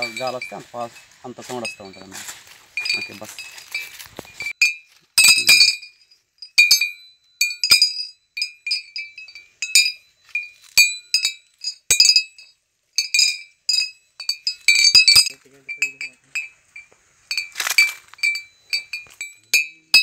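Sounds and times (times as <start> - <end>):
rod clinking glass bottles: 0.0 - 2.2, 2.8 - 20.0.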